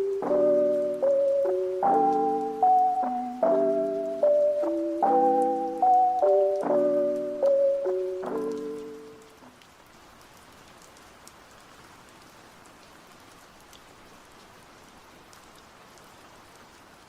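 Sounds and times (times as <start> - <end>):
faint steady rain: 0.0 - 17.0
light ticks of raindrops: 0.0 - 17.0.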